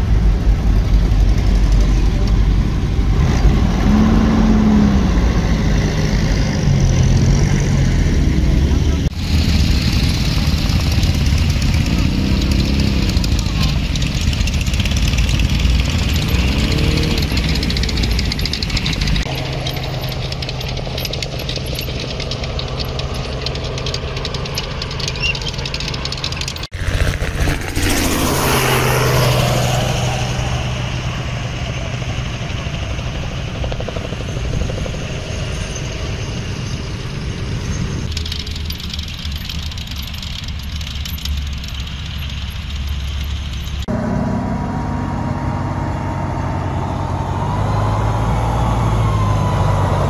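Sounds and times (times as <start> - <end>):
half-track engines droning: 0.0 - 50.0.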